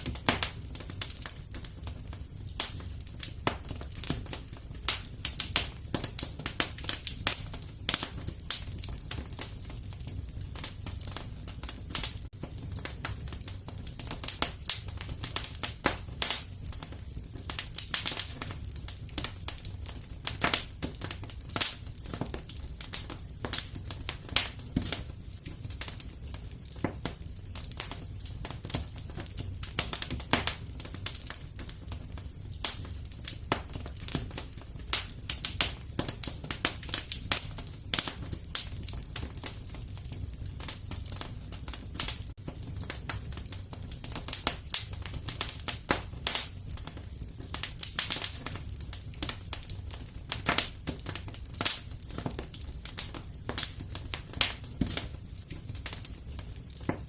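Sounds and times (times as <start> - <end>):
fire crackling and popping: 0.0 - 57.0
low fire rumble: 0.0 - 57.0.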